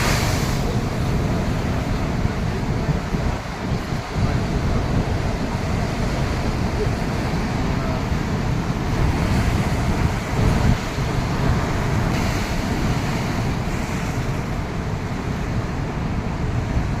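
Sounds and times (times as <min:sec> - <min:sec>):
sea waves washing on beach: 0:00.0 - 0:17.0
wind buffeting microphone: 0:00.0 - 0:17.0.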